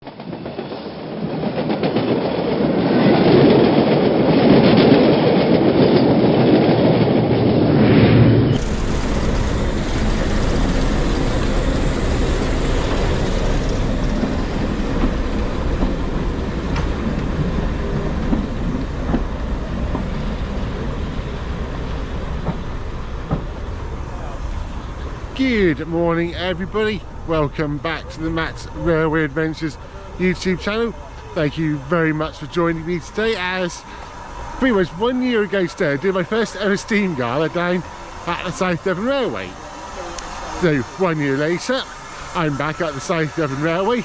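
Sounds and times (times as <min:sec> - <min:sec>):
train running on rails: 0:00.0 - 0:44.0
train wheel clicks: 0:08.6 - 0:44.0.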